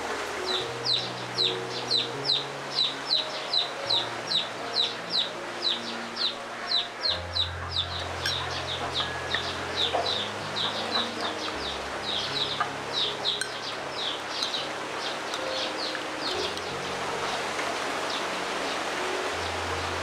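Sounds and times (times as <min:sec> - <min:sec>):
birds chirping: 0:00.0 - 0:20.0
low hum and hiss: 0:00.0 - 0:20.0.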